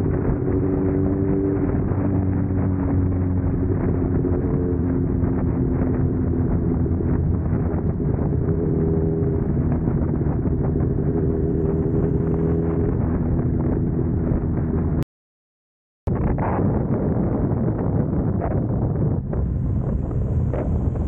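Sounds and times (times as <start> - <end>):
motorcycle engine cruising: 0.0 - 15.0, 18.8 - 21.0
wind rushing over microphone: 0.0 - 15.0, 16.1 - 21.0.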